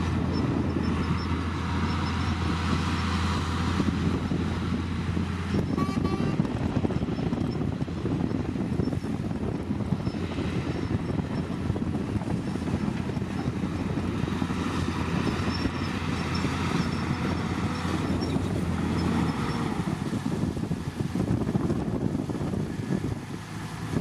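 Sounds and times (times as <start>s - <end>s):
heavy diesel engine rumbling: 0.0s - 24.0s.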